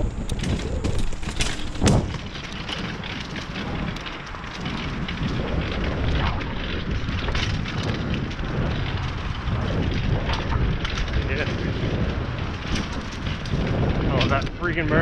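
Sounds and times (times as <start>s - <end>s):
bike rattling over rough ground: 0.0s - 15.0s
tyres rolling over dirt: 0.0s - 15.0s
wind buffeting microphone: 0.0s - 15.0s.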